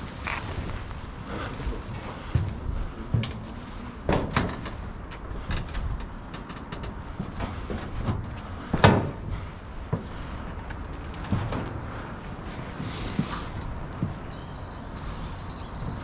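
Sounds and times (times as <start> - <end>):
footsteps and clatter on concrete: 0.0 - 16.0.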